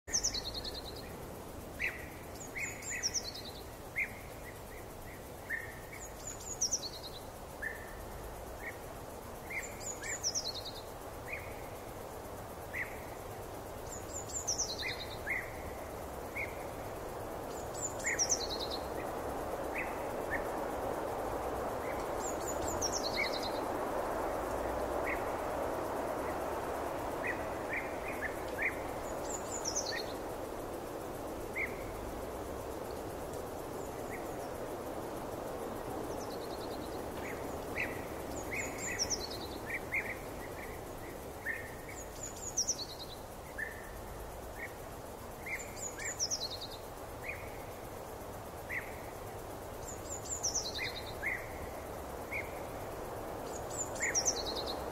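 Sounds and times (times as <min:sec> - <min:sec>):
background hiss: 0:00.0 - 0:54.9.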